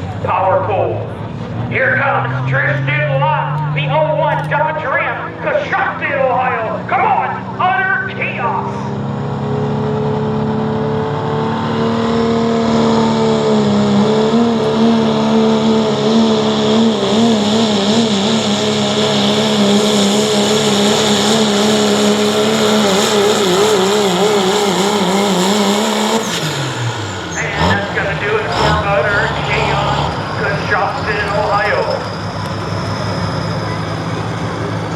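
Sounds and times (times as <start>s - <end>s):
diesel truck engine revving hard: 0.0s - 34.9s.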